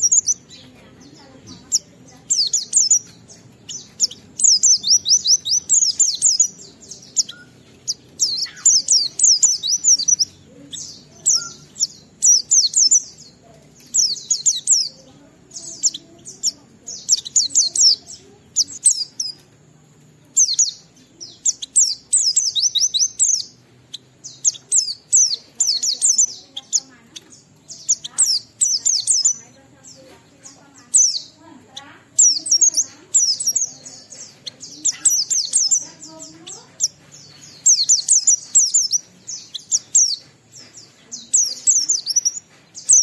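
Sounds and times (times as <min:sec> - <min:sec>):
white-eye bird singing: 0:00.0 - 0:43.0.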